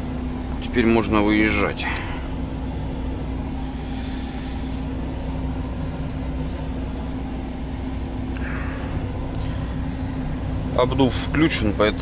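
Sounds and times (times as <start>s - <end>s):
diesel engine running in cab: 0.0s - 12.0s
blower fan hiss: 1.9s - 12.0s.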